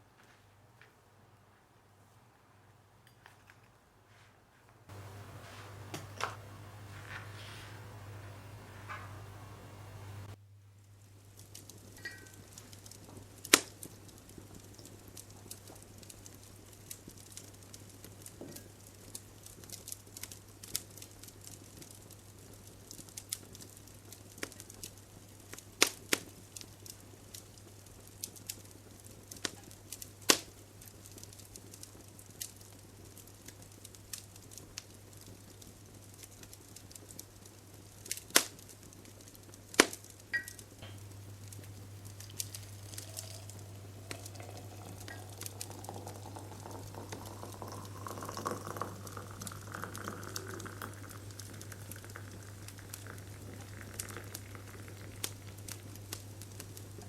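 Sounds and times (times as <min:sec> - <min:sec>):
kettle heating hum and hiss: 0:00.0 - 0:57.0.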